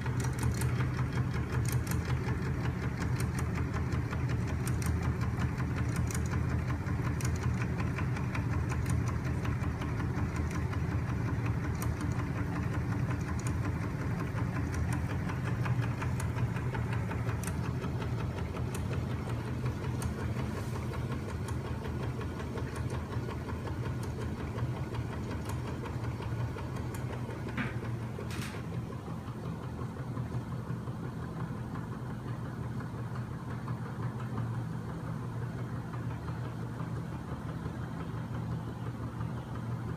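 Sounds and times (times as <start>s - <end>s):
machine rattling over low hum: 0.0s - 39.9s.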